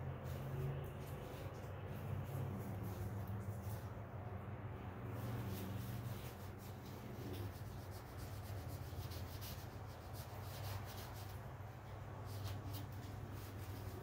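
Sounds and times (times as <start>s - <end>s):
paper towel wiping: 0.0s - 14.0s
steady low hum: 0.0s - 14.0s.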